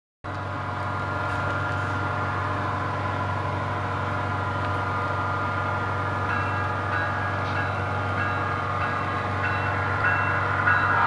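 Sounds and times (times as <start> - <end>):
model train running on track: 0.3 - 11.0.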